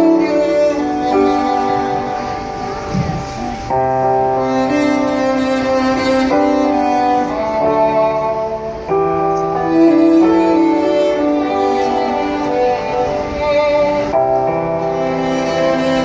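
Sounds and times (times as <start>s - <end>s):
slow bowed string music: 0.0s - 16.0s.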